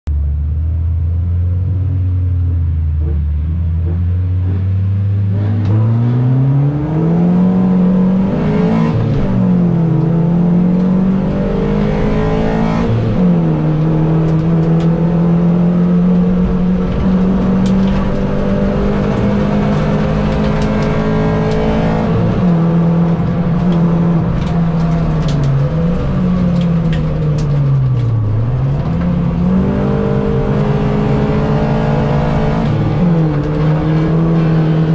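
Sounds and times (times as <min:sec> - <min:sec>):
race car engine revving: 0:02.9 - 0:34.9.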